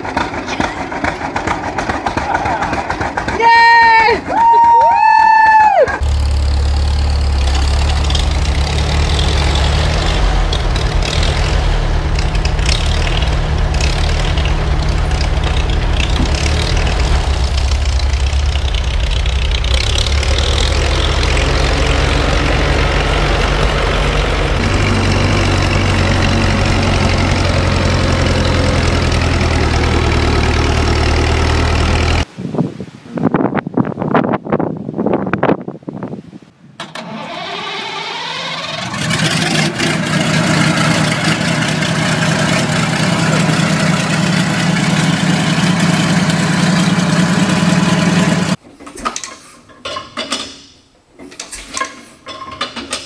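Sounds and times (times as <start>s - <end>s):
tractor engines running: 0.0s - 4.8s, 6.0s - 32.3s, 36.8s - 53.0s.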